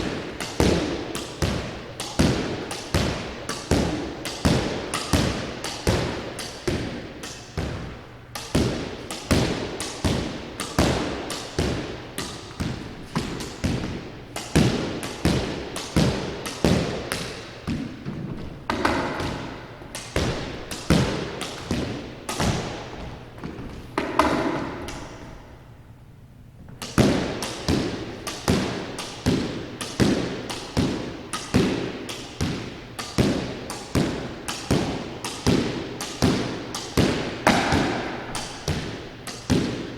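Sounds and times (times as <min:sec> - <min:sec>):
squash ball knocks: 0:00.0 - 0:25.7, 0:26.7 - 0:39.9.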